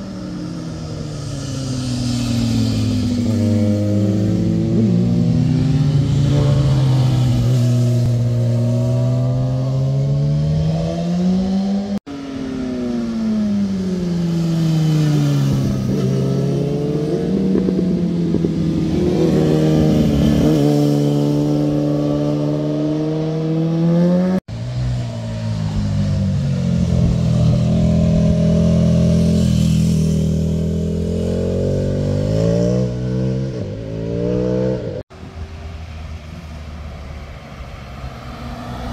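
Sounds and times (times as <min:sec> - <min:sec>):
motorcycle engines passing: 0:00.0 - 0:38.9.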